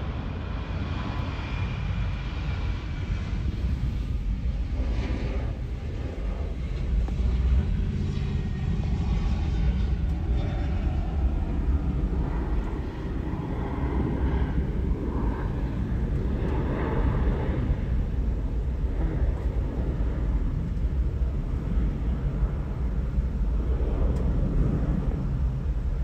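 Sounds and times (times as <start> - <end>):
airplane engines rumbling: 0.0 - 26.0.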